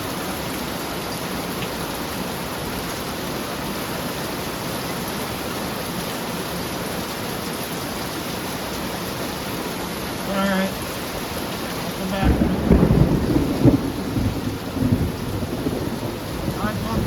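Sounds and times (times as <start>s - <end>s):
heavy rain pouring: 0.0s - 17.0s
rain on a metal roof: 0.0s - 17.0s.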